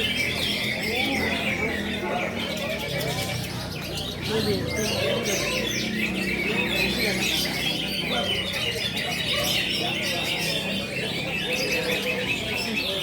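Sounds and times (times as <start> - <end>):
chorus of birds singing: 0.0 - 13.0.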